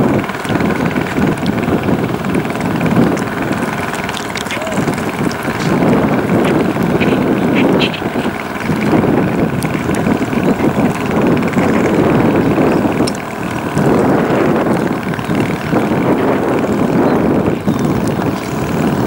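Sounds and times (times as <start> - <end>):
wind blowing on microphone: 0.0 - 19.0.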